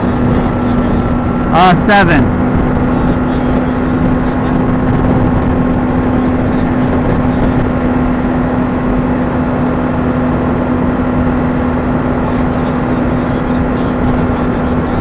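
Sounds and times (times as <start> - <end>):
wind rush: 0.0 - 12.5
motorcycle engine at high pitch: 0.0 - 15.0.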